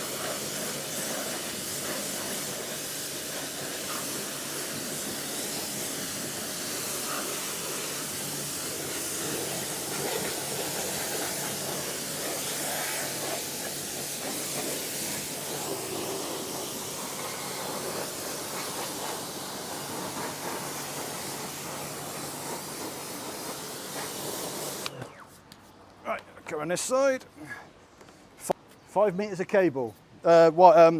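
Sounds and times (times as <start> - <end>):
pressure washer spraying water: 0.0 - 24.9.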